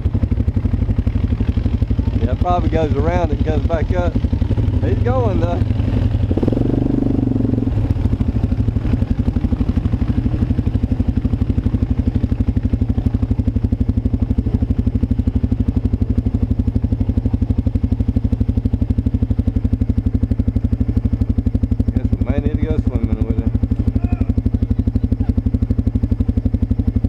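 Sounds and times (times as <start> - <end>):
atv engine idling: 0.0 - 27.0.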